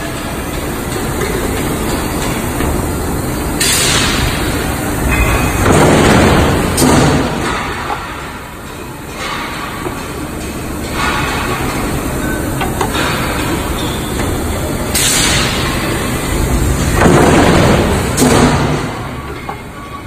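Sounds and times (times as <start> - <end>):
press machine rumbling: 0.0 - 20.0.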